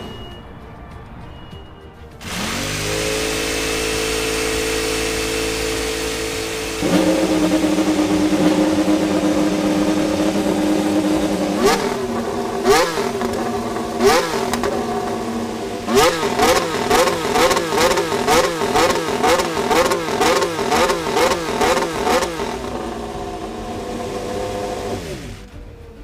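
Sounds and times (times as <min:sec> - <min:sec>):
engine throttle blips: 0:00.0 - 0:26.0
racing car engine idling: 0:02.2 - 0:26.0.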